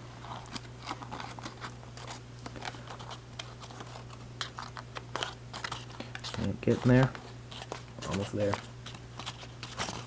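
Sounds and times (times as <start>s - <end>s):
low electrical hum: 0.0s - 10.0s
paper crinkling while folded: 0.2s - 10.0s.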